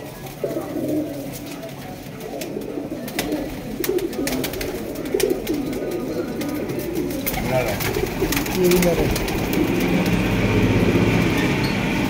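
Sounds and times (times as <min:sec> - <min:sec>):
pigeons cooing: 0:00.0 - 0:11.9.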